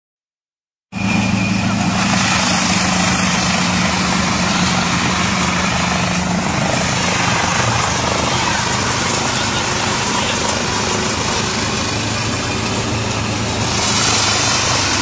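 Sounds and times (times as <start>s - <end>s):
rushing chaff noise: 0.9s - 15.0s
chaff cutter machine hum: 1.0s - 15.0s.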